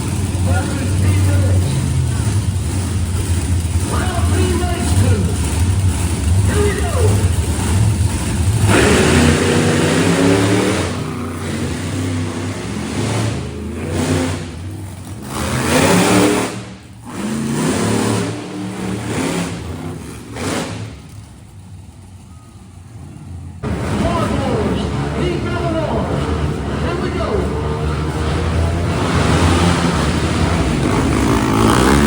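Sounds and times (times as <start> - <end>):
monster truck engines revving: 0.0 - 32.0.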